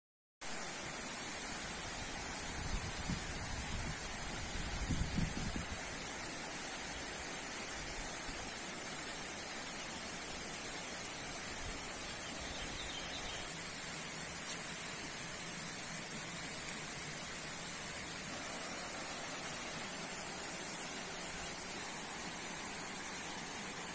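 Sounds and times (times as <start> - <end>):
even hiss: 0.4 - 23.9.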